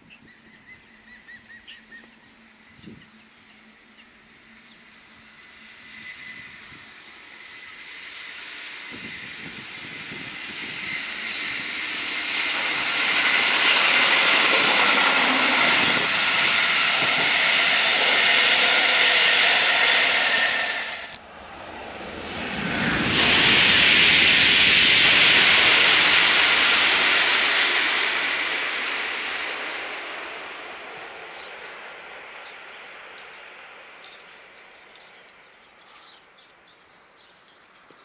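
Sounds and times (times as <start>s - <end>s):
passenger train passing: 0.3s - 37.2s
high-speed train rushing past: 0.9s - 36.3s.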